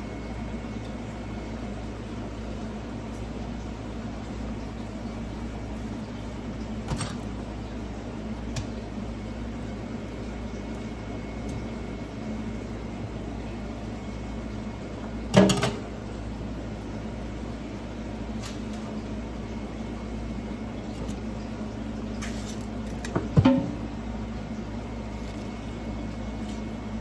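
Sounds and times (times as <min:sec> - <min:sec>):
kitchen background hum: 0:00.0 - 0:27.0.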